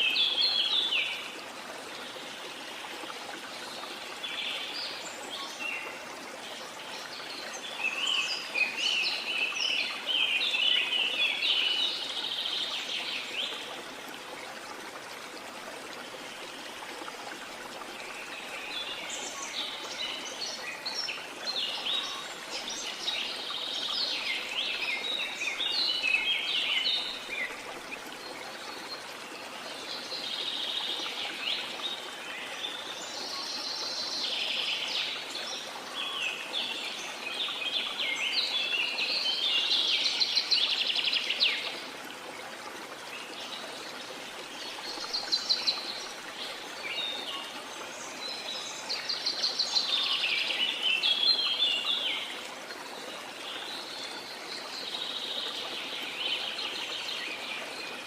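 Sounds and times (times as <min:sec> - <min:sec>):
falling water: 0:00.0 - 0:58.0.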